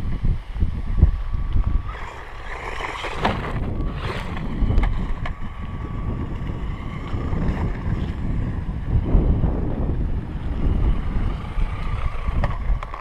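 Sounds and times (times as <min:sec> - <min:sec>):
rc truck motor whine: 0:00.0 - 0:13.0
wind buffeting microphone: 0:00.0 - 0:13.0.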